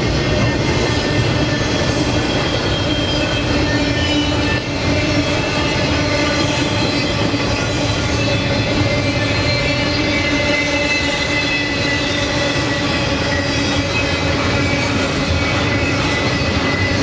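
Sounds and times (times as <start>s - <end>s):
rumble of train wheels on track: 0.0s - 17.0s.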